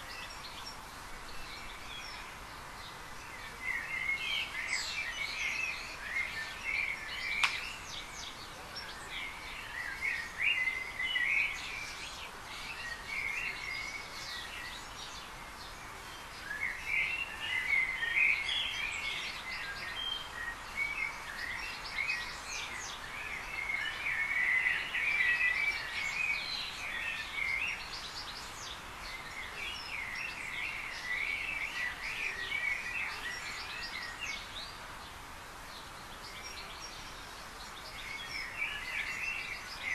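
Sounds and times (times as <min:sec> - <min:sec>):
birds chirping and singing: 0:00.0 - 0:39.9
steady background hiss: 0:00.0 - 0:39.9.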